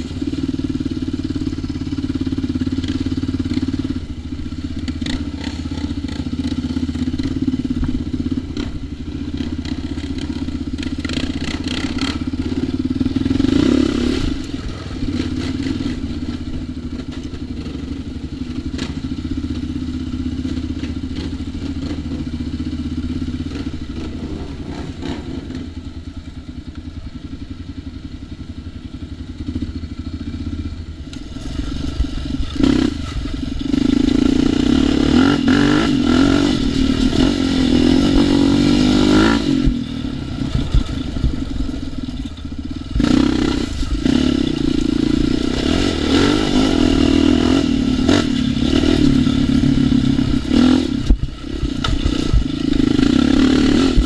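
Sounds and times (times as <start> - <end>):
atv engine idling and revving: 0.0 - 54.0.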